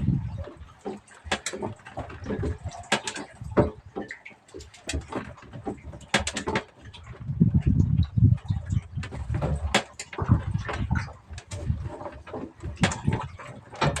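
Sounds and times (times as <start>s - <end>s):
fishing gear clicks and knocks: 0.0s - 14.0s.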